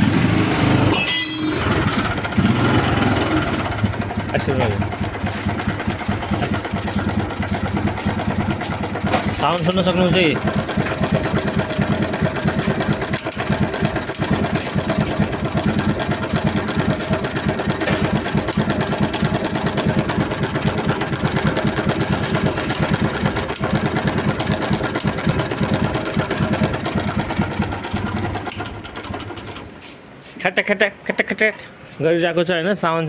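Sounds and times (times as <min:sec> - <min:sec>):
engine ticking: 0:00.0 - 0:29.7
motorcycle engine idling: 0:00.1 - 0:29.7.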